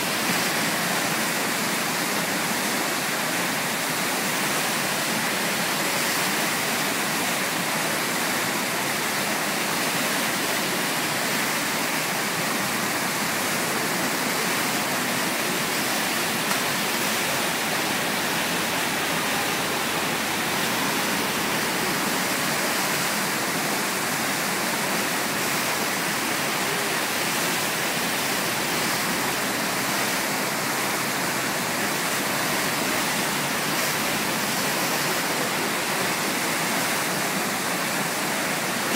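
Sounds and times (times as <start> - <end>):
whitewater rushing: 0.0 - 38.9.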